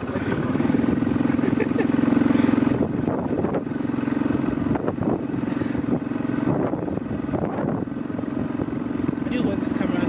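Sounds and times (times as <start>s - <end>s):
small vehicle engine running: 0.0s - 10.0s.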